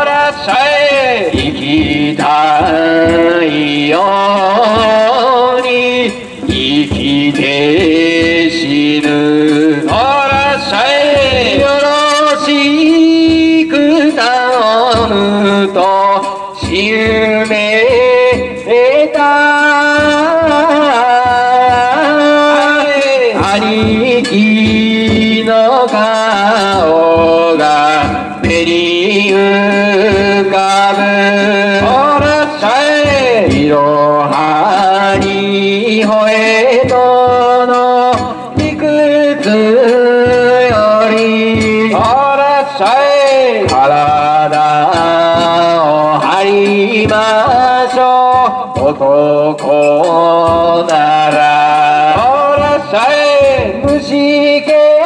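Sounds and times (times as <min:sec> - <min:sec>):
person singing wavering song: 0:00.0 - 0:55.0.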